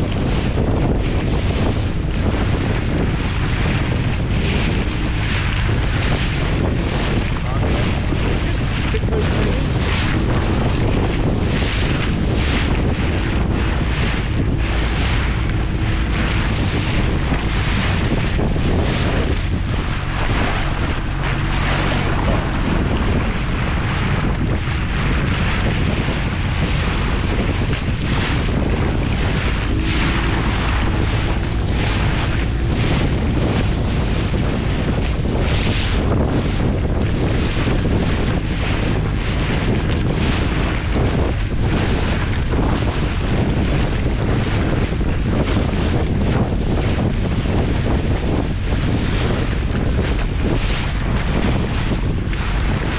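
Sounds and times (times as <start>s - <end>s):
boat engine running: 0.0s - 52.9s
water rushing and splashing: 0.0s - 52.9s
wind buffeting microphone: 0.0s - 52.9s.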